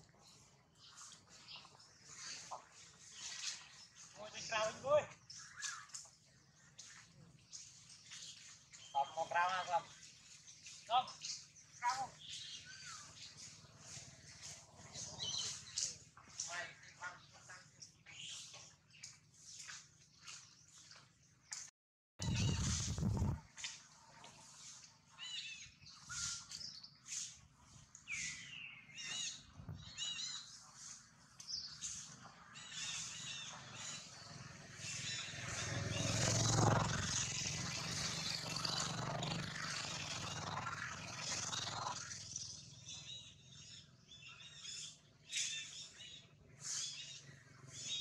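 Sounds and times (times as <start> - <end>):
birds chirping: 0.1 - 21.5, 22.2 - 48.0.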